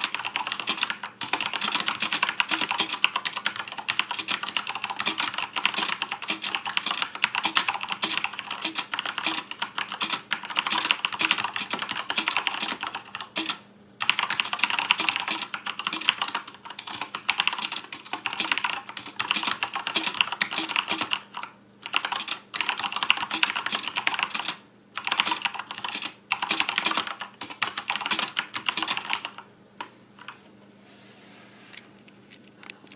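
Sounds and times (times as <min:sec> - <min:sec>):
mechanical keyboard typing: 0:00.0 - 0:29.5.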